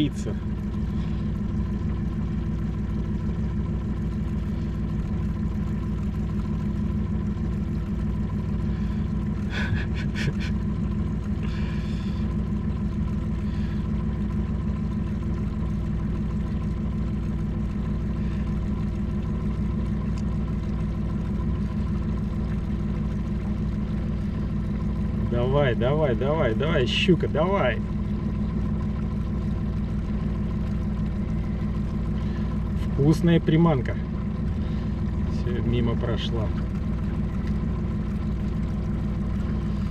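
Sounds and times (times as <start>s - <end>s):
boat motor humming: 0.0s - 39.9s.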